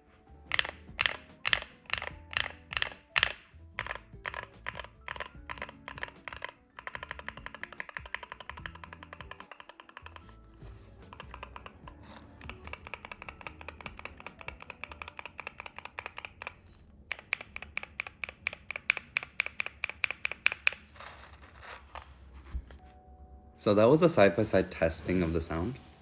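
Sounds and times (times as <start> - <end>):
keyboard keys pressed rapidly: 0.0 - 21.8.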